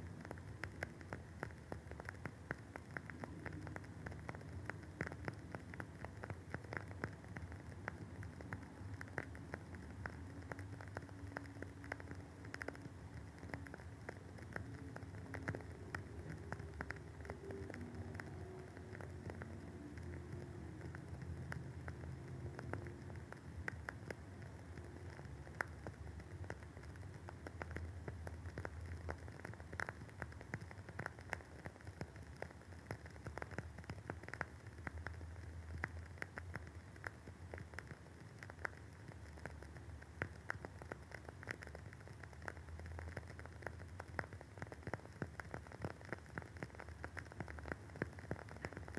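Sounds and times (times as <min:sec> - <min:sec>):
candle wick crackling: 0:00.0 - 0:48.9
faint low hum: 0:00.0 - 0:48.9.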